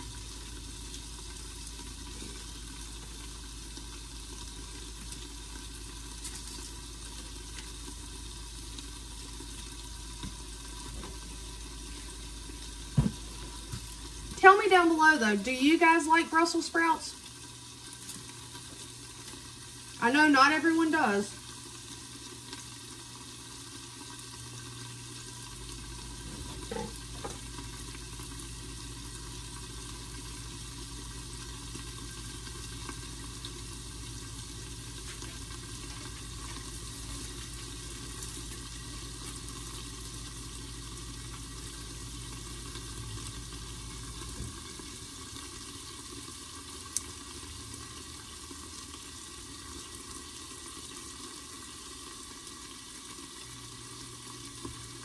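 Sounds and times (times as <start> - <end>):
green beans sizzling in skillet: 0.0 - 55.0.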